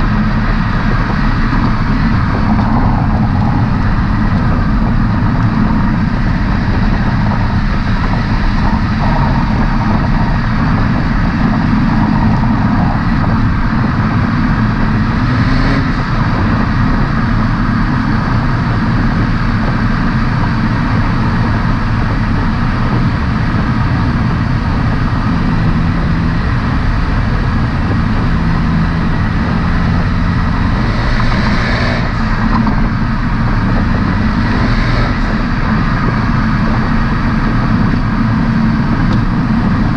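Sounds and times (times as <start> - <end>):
turbocharged car engine and exhaust: 0.0 - 39.9.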